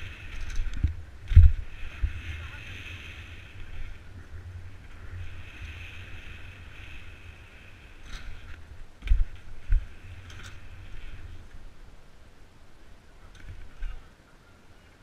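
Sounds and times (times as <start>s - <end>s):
bike tyre noise: 0.0s - 12.2s
wind rumble on microphone: 0.0s - 14.2s.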